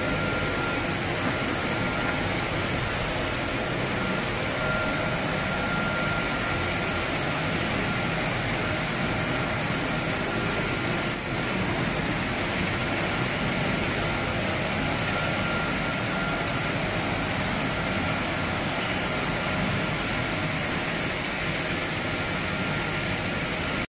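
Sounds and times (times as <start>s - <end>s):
press machines running: 0.0s - 23.8s
faint high machine whine: 0.0s - 23.9s.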